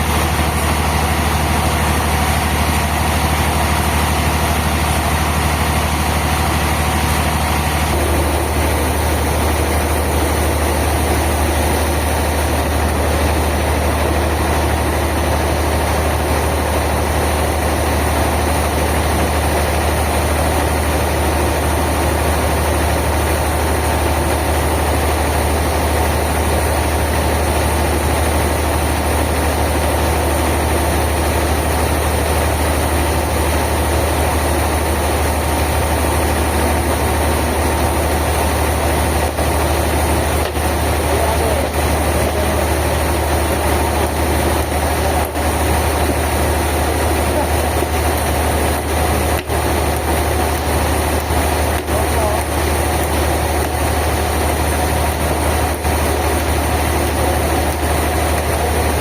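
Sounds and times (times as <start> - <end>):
machinery engine humming: 0.0 - 59.0.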